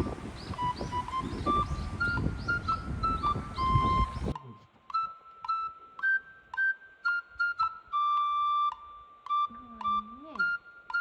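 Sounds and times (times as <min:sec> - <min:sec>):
light background music: 0:00.0 - 0:11.0.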